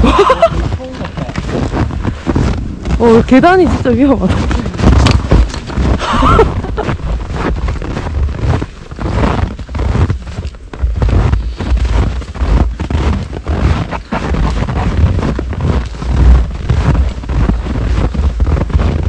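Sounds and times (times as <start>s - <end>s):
footsteps crunching in snow: 0.0s - 19.0s
wind buffeting microphone: 0.0s - 19.0s.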